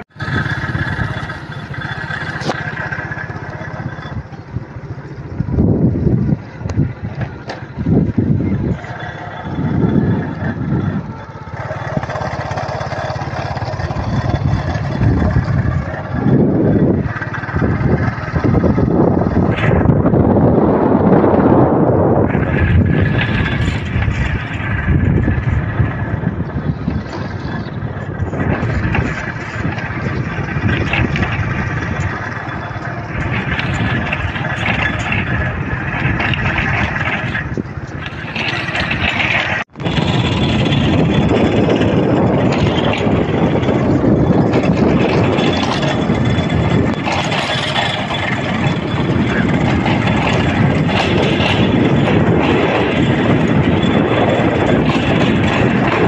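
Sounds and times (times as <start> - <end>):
motor vehicle running: 0.0 - 56.0
road noise: 0.0 - 56.0
wind noise: 0.0 - 56.0.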